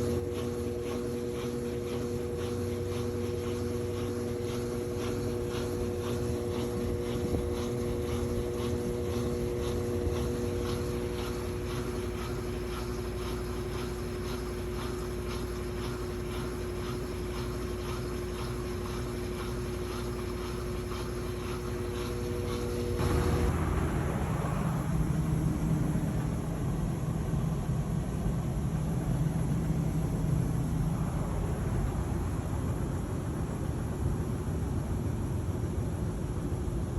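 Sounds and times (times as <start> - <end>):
washing machine motor hum: 0.0 - 36.9.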